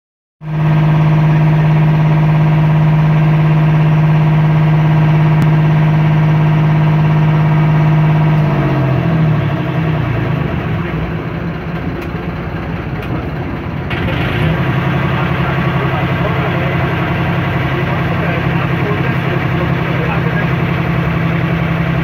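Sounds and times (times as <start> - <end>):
boat engine humming: 0.4 - 22.0.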